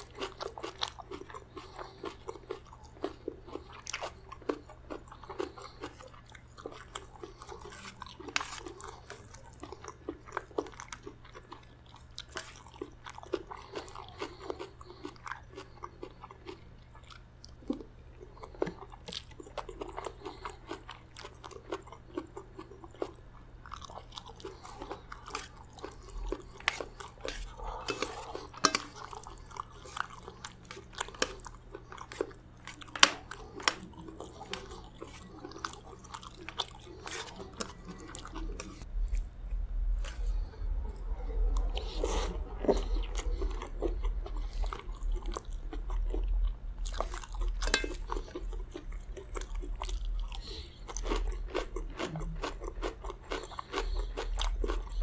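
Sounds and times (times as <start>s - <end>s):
close chewing and mouth sounds: 0.0s - 55.0s
steady low hum: 0.0s - 55.0s.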